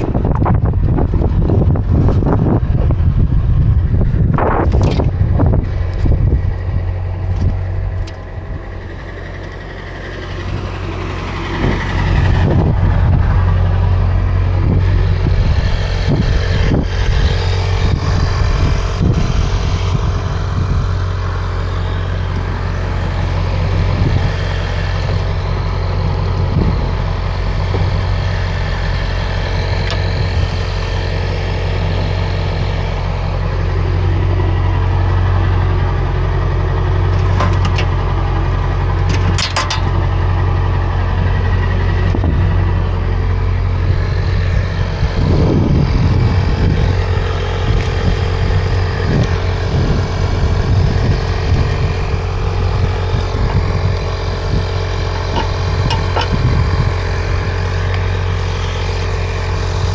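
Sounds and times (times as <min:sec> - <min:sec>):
truck engine and road drone: 0:00.0 - 0:59.9.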